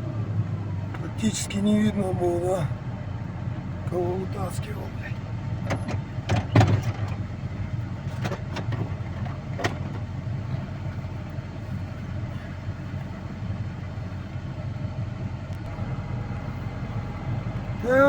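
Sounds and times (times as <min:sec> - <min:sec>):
engine running with low rumble: 0:00.0 - 0:18.0.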